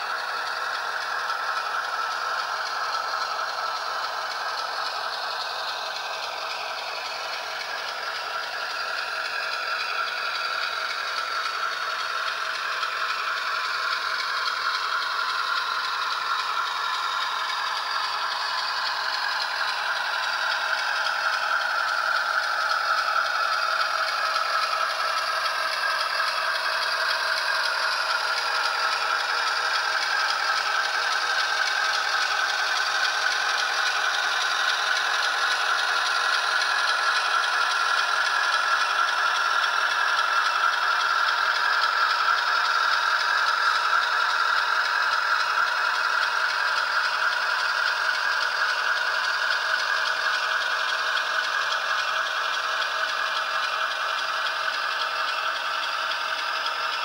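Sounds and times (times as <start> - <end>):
model train motor whirring: 0.0 - 57.0
wheels rolling on rails: 0.0 - 57.0.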